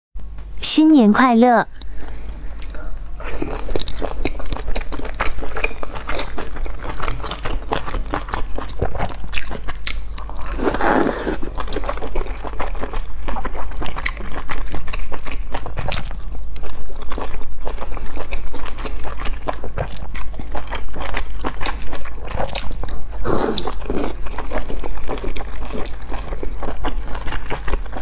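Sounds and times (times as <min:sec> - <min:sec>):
low steady hum: 0:00.2 - 0:28.0
person chewing dumplings: 0:01.8 - 0:28.0.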